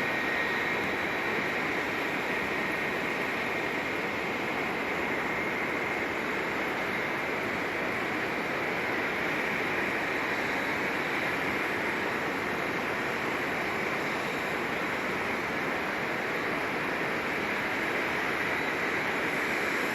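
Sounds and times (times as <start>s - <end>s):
aircraft jet noise: 0.0s - 19.9s
faint high whine: 0.0s - 19.9s.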